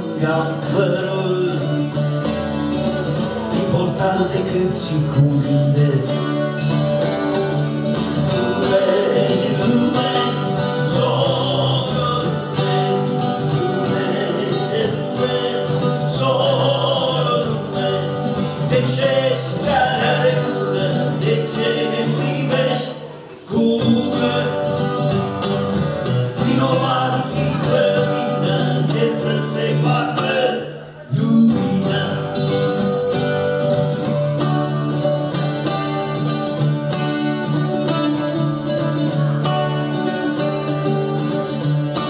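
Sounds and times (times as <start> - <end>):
acoustic guitar playing: 0.0 - 42.0.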